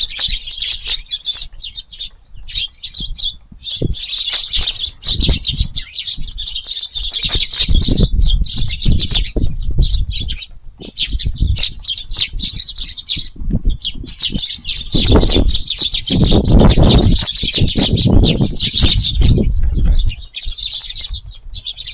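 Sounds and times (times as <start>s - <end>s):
sparrows chirping: 0.0s - 21.9s.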